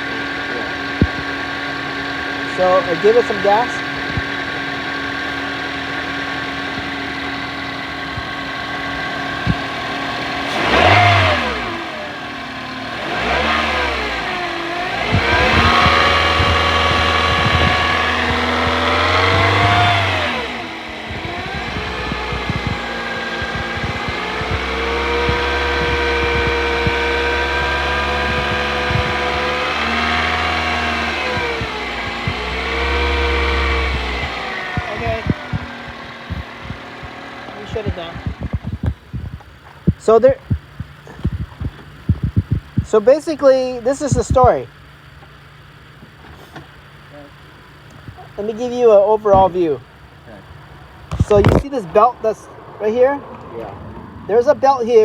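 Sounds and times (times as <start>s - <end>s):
car engine revving: 0.0s - 55.0s
engine bay whine: 0.0s - 55.0s.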